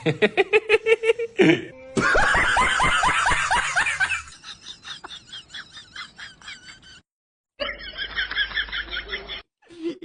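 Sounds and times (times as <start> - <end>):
laughter in bursts: 0.0 - 10.0.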